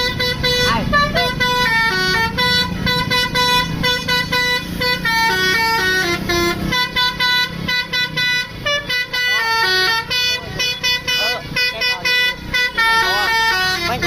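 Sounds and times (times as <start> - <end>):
bus musical horn melody: 0.0 - 14.0
engine noise: 0.0 - 14.0.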